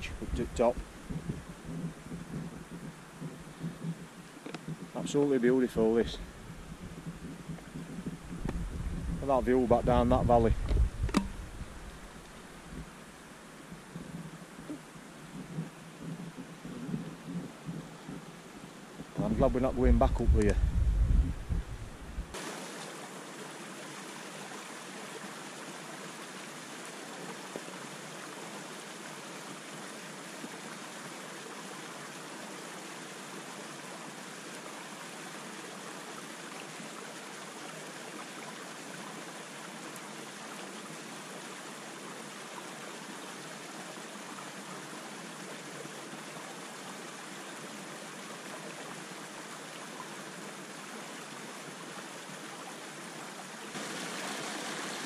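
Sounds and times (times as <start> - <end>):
stream splashing over rocks: 0.0 - 20.6, 22.3 - 55.0.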